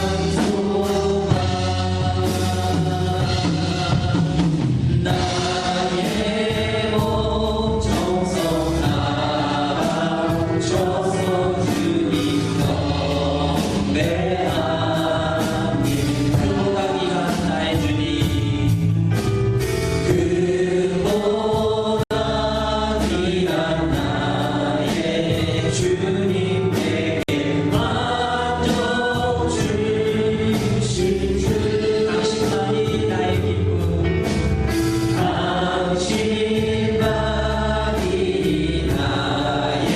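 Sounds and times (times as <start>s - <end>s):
choir singing worship song: 0.0s - 39.9s
instrumental accompaniment with beat: 0.0s - 39.9s.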